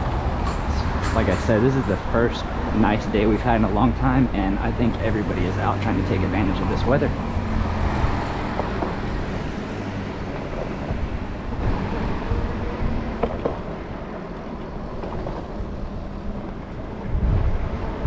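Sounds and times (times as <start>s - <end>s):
tyre and traffic noise: 0.0s - 18.0s
wind rushing over microphone: 0.0s - 18.0s.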